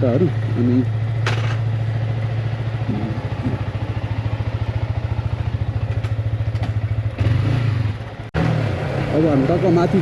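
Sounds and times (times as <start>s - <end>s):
motorcycle idling: 0.0s - 10.0s.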